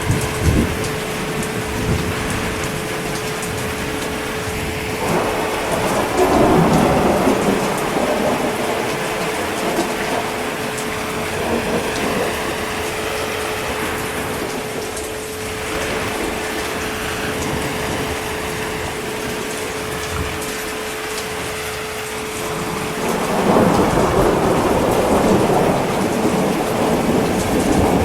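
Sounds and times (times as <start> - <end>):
heavy rain: 0.0 - 28.0
thunder rumble: 0.0 - 28.0.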